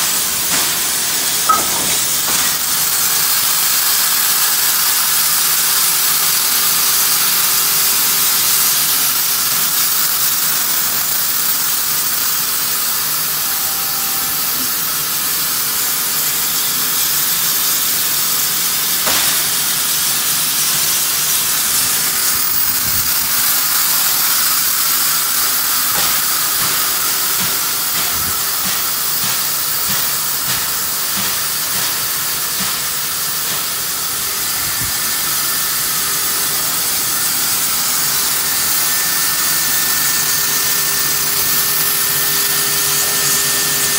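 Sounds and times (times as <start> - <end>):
steam hissing from locomotive: 0.0 - 43.9.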